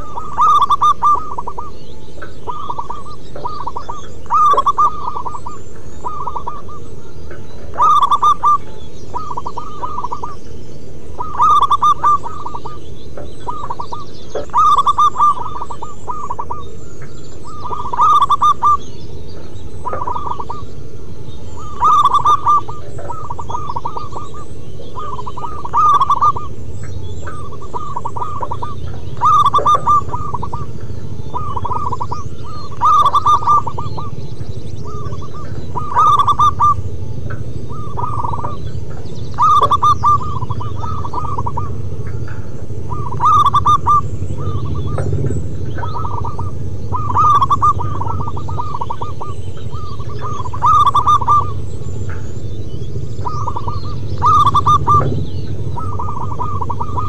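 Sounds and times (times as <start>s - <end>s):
doves cooing: 0.0s - 57.0s
low background rumble: 0.0s - 57.0s.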